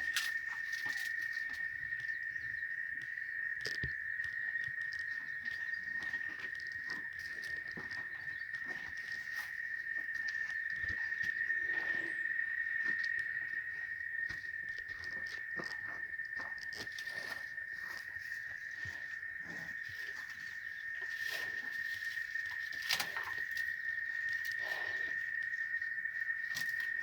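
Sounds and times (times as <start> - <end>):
cicadas droning: 0.0 - 27.0.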